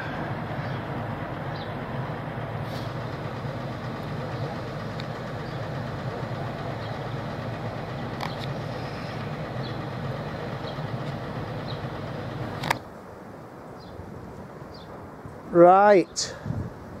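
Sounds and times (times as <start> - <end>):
heavy engine idling hum: 0.0 - 17.0.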